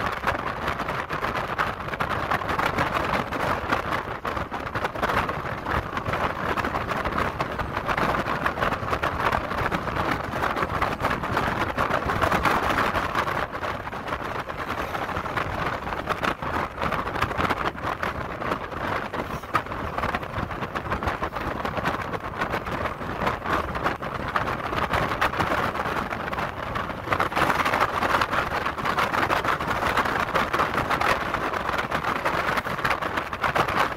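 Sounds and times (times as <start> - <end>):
road noise of vehicle at speed: 0.0 - 33.9
wind rumble on microphone: 0.0 - 33.9.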